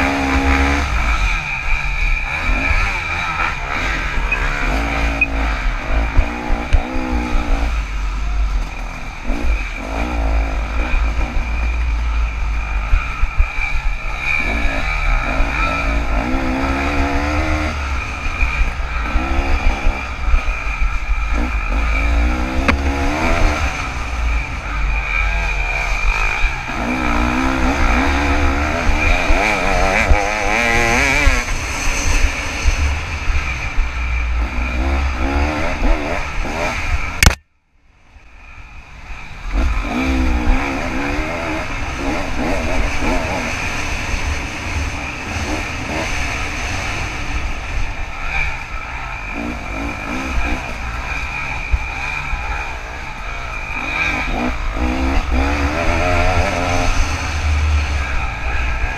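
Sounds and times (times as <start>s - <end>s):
dirt bike engine revving: 0.0s - 37.4s, 38.9s - 58.9s
wind rumble: 0.0s - 37.4s, 38.0s - 58.9s.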